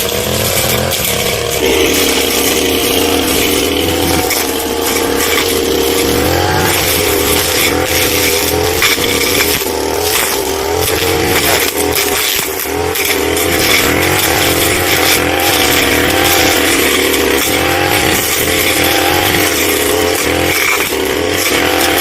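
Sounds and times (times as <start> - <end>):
brush cutter running at high revs: 0.0 - 22.0.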